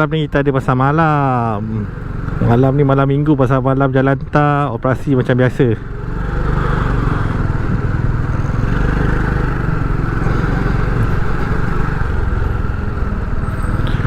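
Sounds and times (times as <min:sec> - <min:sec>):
motorcycle engine rumbling: 0:00.0 - 0:14.0
road and air noise: 0:00.0 - 0:14.0.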